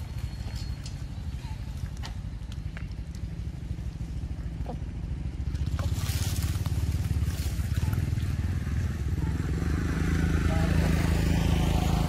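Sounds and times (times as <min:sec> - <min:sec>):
small engine rumbling: 0:00.0 - 0:12.0.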